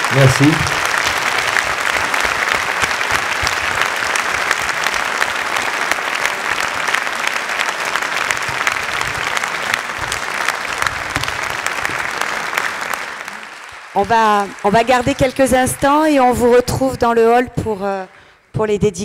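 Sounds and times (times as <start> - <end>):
large audience applauding: 0.0 - 16.6.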